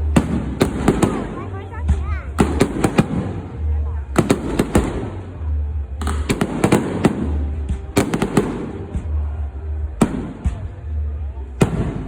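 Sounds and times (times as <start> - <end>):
fireworks bangs: 0.0 - 5.4, 6.0 - 10.9, 11.6 - 12.0.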